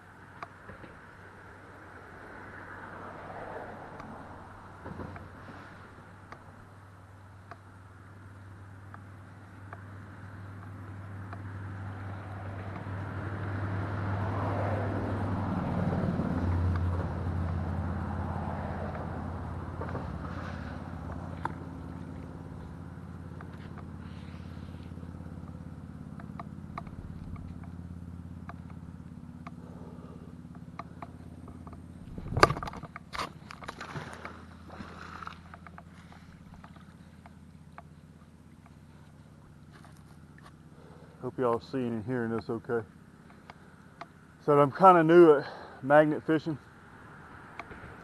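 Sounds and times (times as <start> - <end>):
traffic drone: 0.0 - 48.0
vehicle passing: 1.2 - 6.7, 9.8 - 48.0.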